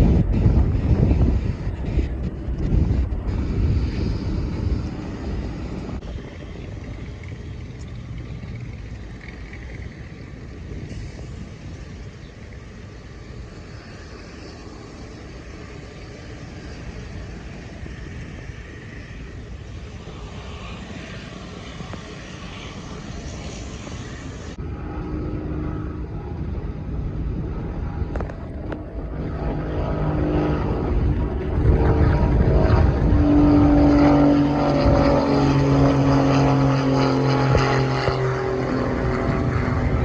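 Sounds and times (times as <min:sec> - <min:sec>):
airplane engines rushing: 0:00.0 - 0:40.0
wind buffeting microphone: 0:00.0 - 0:40.0.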